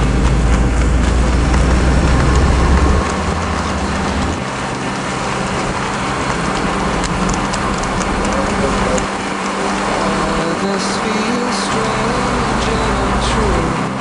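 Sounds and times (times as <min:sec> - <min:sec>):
deep low vehicle rumble: 0:00.0 - 0:14.0
vehicle road and wind noise: 0:00.0 - 0:14.0.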